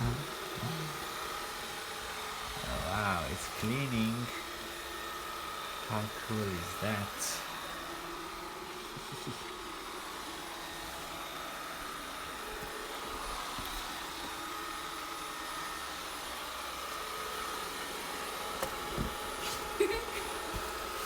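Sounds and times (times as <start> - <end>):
robot vacuum cleaner whirring: 0.0 - 21.0.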